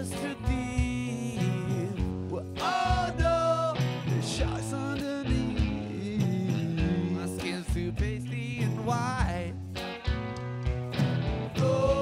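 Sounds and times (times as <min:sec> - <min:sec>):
person singing: 0:00.0 - 0:09.5, 0:11.5 - 0:12.0
bass guitar: 0:00.0 - 0:12.0
drums: 0:00.0 - 0:12.0
electric guitars: 0:00.0 - 0:12.0.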